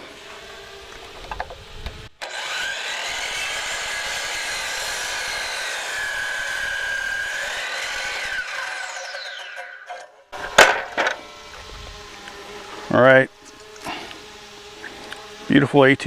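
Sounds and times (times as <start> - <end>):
miter saw cutting wood: 0.0 - 16.0.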